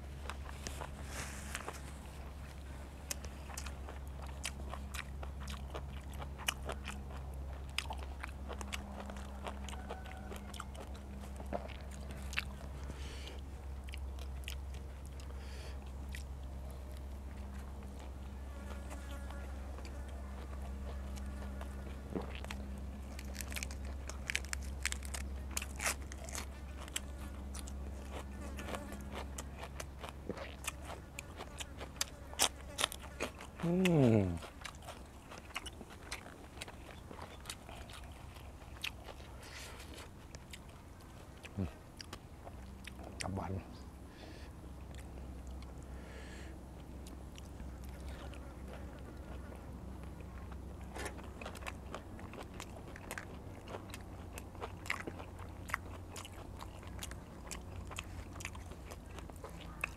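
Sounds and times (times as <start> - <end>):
chewing and crunching food: 0.0 - 59.9
steady low hum: 0.0 - 59.9.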